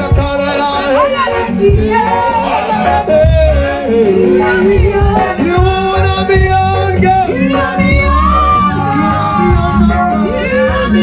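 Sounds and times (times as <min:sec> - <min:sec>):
worship music with steady beat: 0:00.0 - 0:11.0.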